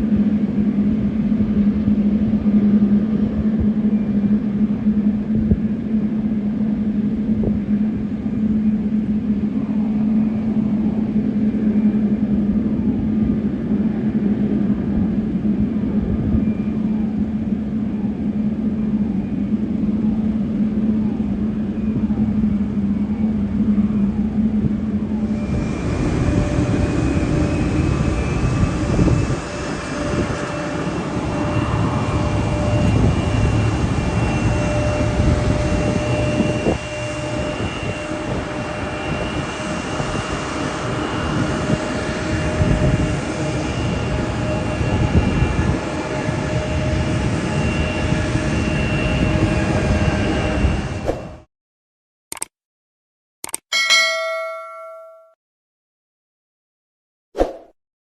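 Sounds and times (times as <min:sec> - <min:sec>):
high whining engine: 0:00.0 - 0:51.5
jet engines rumbling: 0:00.0 - 0:51.5.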